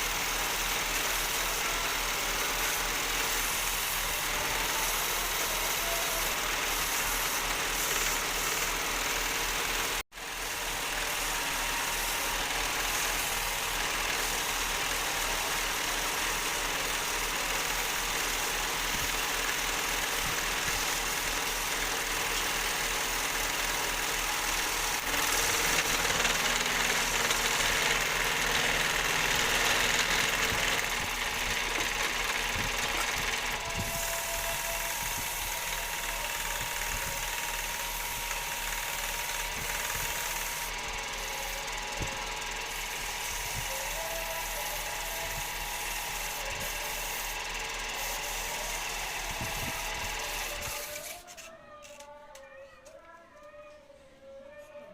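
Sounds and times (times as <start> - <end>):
wood lathe running: 0.0 - 51.2
hiss from turning work: 0.0 - 51.4.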